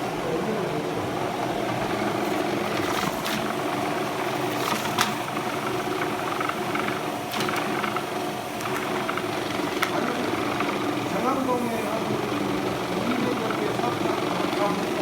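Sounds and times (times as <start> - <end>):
sorting machine humming: 0.0 - 15.0.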